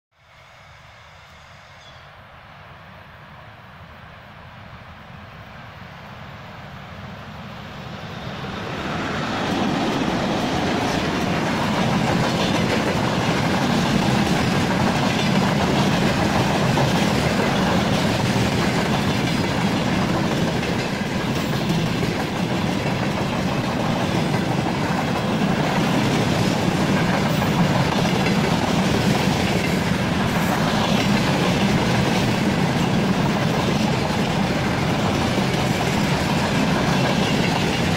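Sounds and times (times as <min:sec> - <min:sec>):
electric locomotive hauling freight: 0:04.9 - 0:37.9.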